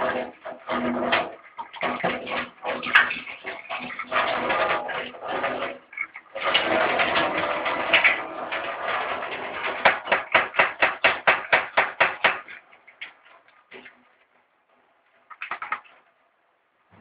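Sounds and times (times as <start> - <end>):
water sloshing in filter housing: 0.0 - 16.2.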